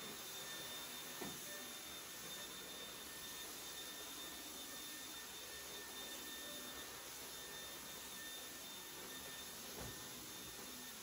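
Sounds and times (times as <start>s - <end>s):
stick vacuum cleaner running: 0.0s - 11.0s.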